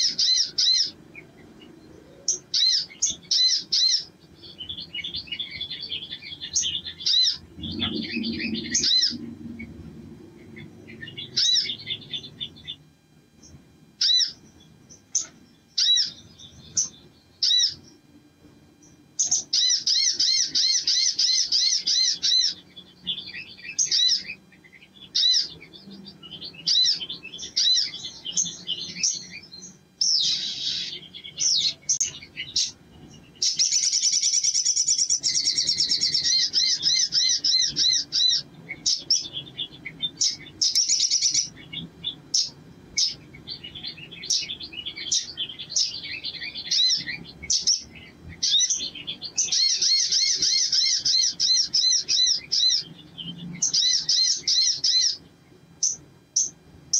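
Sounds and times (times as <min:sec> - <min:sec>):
bird chirping and trilling: 0:00.0 - 0:56.7.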